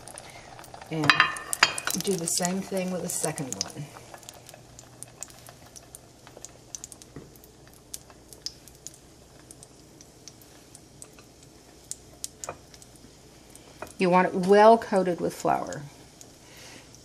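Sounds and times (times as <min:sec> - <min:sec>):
cutlet frying in oil: 0:00.0 - 0:17.0.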